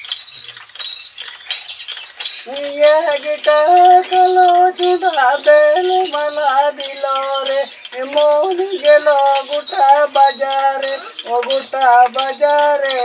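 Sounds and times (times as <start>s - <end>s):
man singing folk song: 2.4s - 13.0s.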